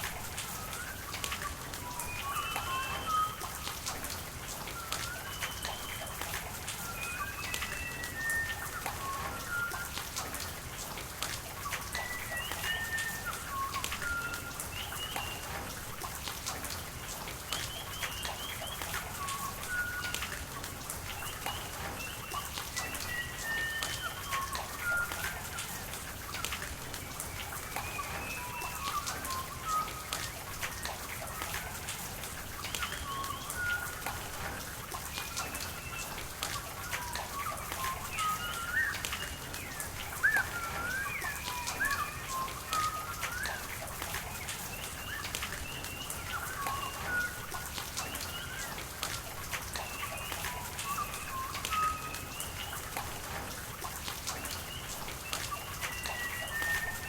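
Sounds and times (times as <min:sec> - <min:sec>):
raindrops ticking: 0:00.0 - 0:57.0
steady rain: 0:00.0 - 0:57.0
birds chirping and whistling: 0:00.3 - 0:04.0, 0:04.6 - 0:10.3, 0:11.6 - 0:15.7, 0:17.5 - 0:20.4, 0:21.0 - 0:31.8, 0:32.4 - 0:53.5, 0:54.3 - 0:57.0.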